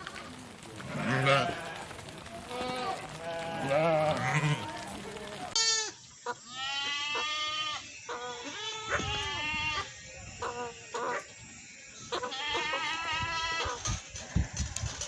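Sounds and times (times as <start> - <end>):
goats bleating: 0.8 - 14.8.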